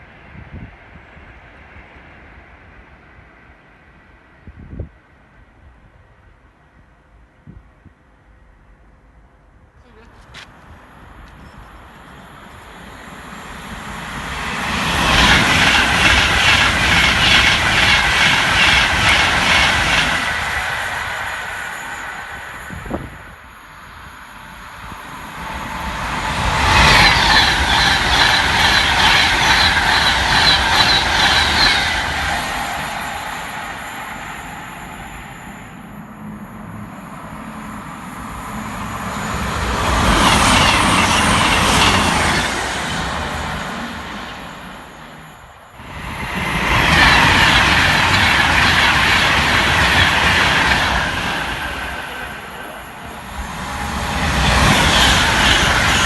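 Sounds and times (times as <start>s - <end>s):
fast trains passing: 0.0s - 56.0s.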